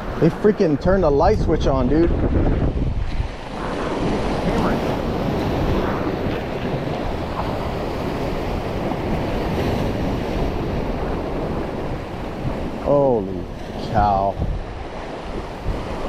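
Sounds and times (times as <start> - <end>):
surf washing against jetty: 0.0 - 16.0
wind buffeting microphone: 0.0 - 16.0.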